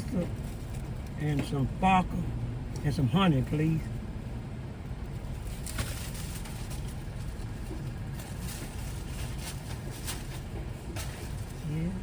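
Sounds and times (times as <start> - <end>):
car idling rumble: 0.0 - 12.0.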